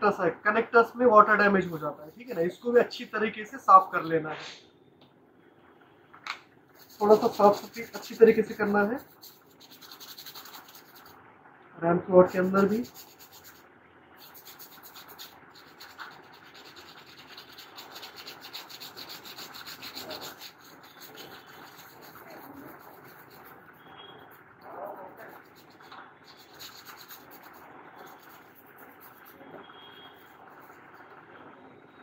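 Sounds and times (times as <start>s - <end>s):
brush scrubbing wet circuit board: 0.9s - 4.2s, 6.8s - 11.2s, 12.2s - 31.2s.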